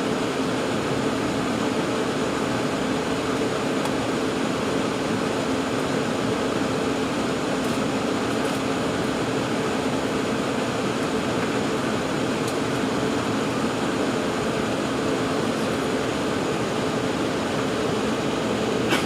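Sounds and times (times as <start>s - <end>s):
airliner cabin engine hum: 0.0s - 19.0s.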